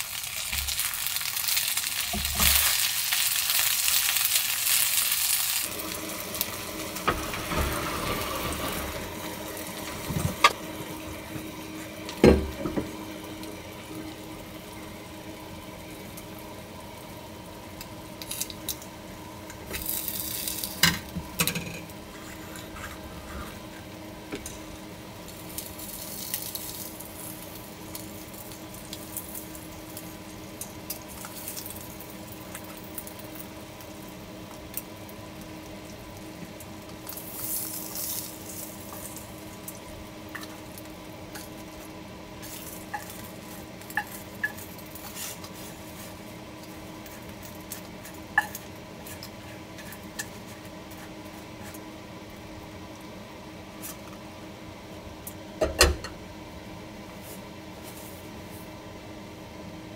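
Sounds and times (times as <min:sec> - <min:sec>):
faint hum: 0:05.6 - 0:59.9.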